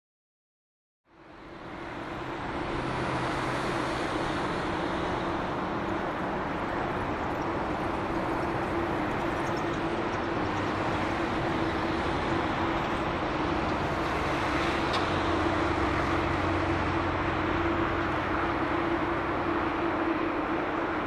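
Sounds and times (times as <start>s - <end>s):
jet engines rushing: 1.3s - 21.0s.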